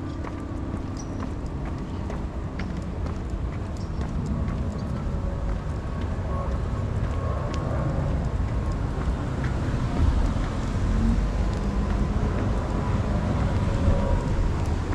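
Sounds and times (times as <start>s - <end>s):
wind rumble on microphone: 0.0s - 14.9s.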